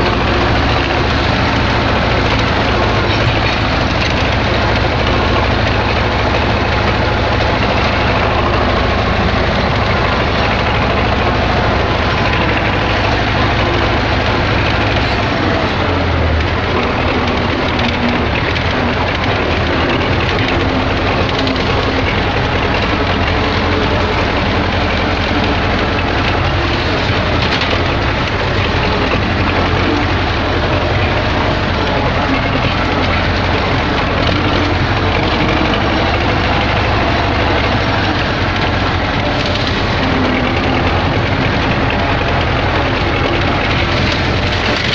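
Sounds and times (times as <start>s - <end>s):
dense rushing noise: 0.0s - 44.9s
diesel tractor engine running: 0.0s - 44.9s.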